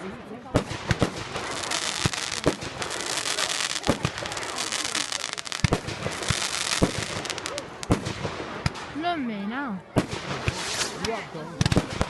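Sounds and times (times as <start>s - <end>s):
fireworks crackling and fizzing: 0.0s - 9.0s, 10.0s - 12.0s
firework bangs: 0.5s - 9.0s, 9.9s - 12.0s.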